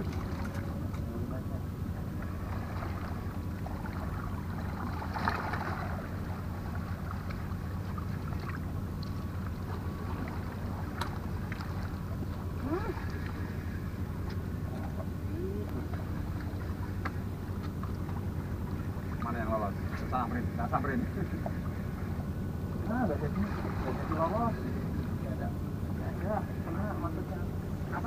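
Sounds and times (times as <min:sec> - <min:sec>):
distant boat engines droning: 0:00.0 - 0:28.0.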